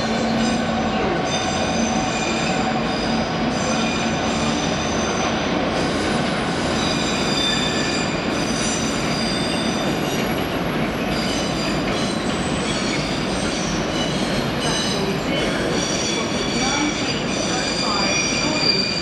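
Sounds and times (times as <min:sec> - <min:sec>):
train rumbling: 0:00.0 - 0:19.0
wheels squealing: 0:00.2 - 0:19.0.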